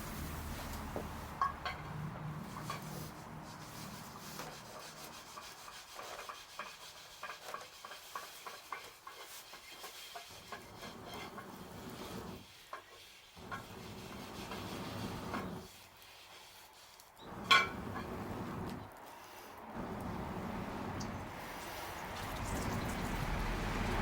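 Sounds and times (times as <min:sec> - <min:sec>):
bonfire wood crackling: 0:00.0 - 0:05.4, 0:07.2 - 0:24.0.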